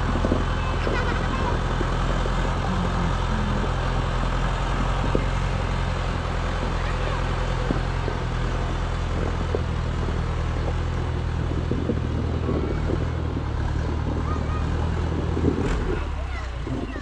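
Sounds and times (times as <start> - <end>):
engine droning steadily: 0.0 - 17.0.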